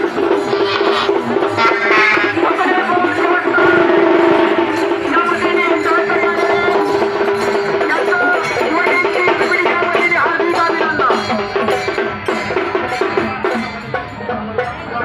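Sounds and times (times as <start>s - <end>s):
music with percussion beat: 0.0s - 15.0s.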